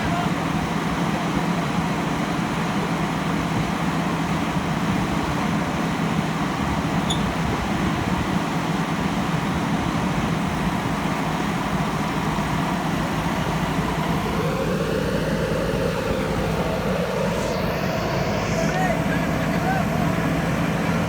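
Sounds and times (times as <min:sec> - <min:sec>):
backhoe loader engine running: 0:00.0 - 0:21.0.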